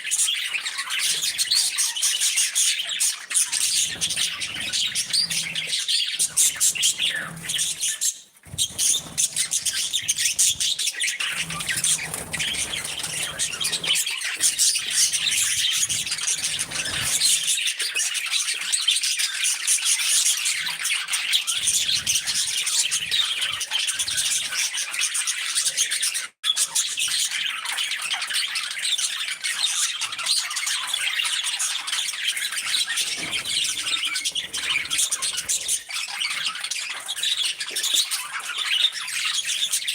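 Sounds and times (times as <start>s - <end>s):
flock of budgerigars chattering: 0.0s - 39.9s.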